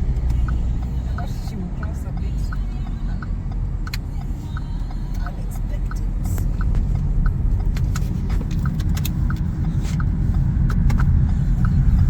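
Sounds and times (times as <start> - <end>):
car engine and road rumble: 0.0 - 12.0
light repeating tick: 0.0 - 12.0.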